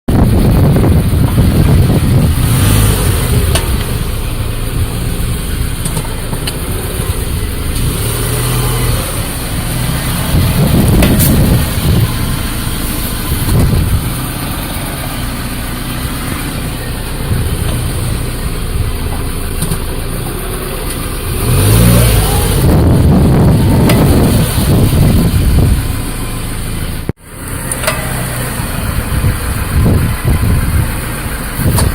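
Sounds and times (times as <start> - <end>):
car engine rumble: 0.0 - 31.9
brake groaning: 0.1 - 31.9.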